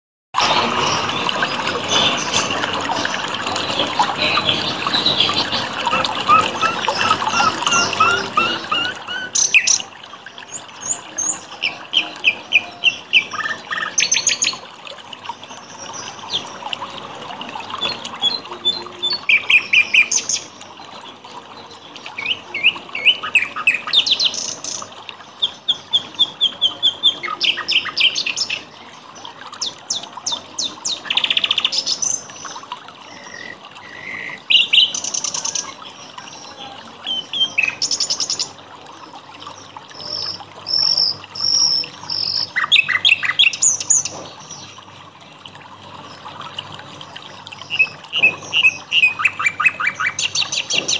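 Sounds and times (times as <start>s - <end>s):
water trickling: 0.4s - 50.9s
songbirds chirping and singing: 0.8s - 14.6s, 15.2s - 44.9s, 47.5s - 50.9s.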